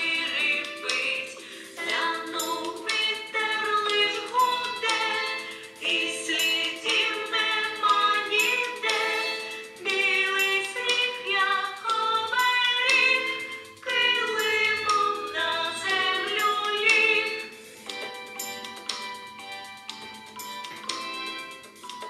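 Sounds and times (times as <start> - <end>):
children's song with backing track: 0.0 - 22.0.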